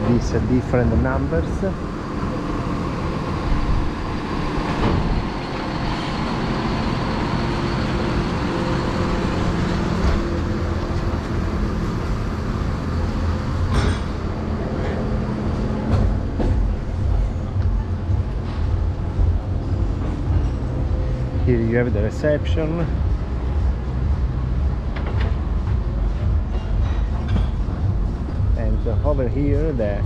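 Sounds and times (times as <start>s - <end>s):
motor running with low hum: 0.3s - 30.0s.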